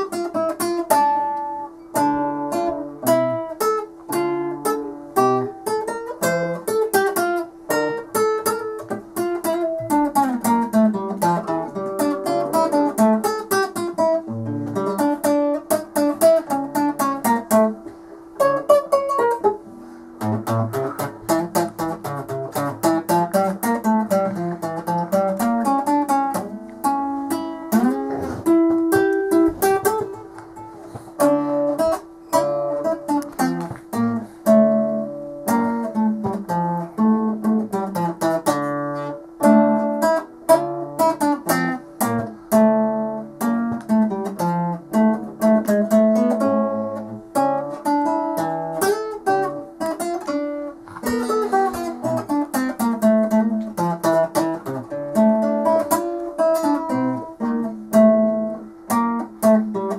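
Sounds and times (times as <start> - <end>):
classical guitar fingerstyle: 0.0 - 59.9.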